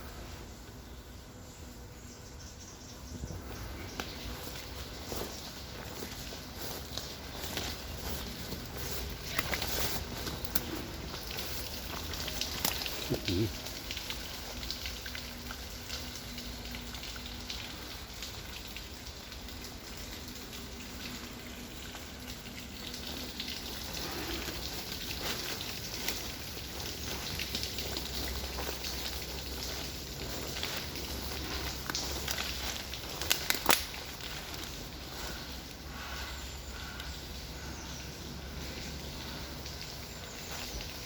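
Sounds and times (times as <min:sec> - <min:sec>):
rain pattering: 0:03.4 - 0:41.0.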